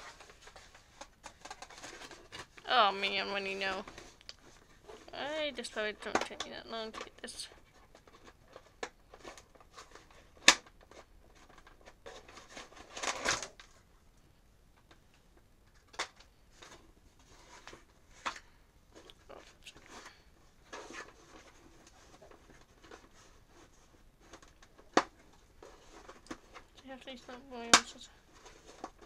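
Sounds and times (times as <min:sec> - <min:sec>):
rustling scrape: 0:00.0 - 0:13.8, 0:16.4 - 0:29.0.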